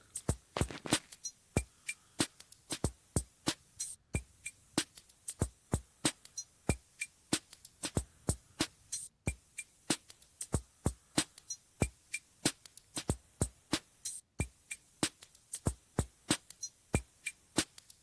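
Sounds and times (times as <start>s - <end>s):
electronic drum machine beat: 0.0s - 18.0s.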